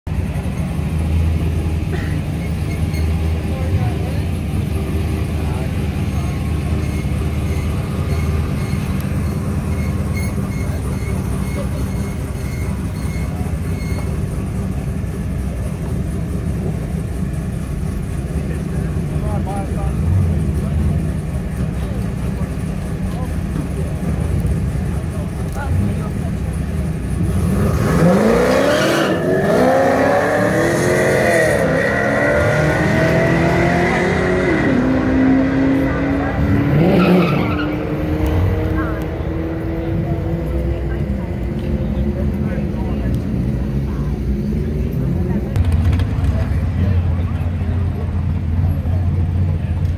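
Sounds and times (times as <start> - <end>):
race car engines idling: 0.1 - 49.9.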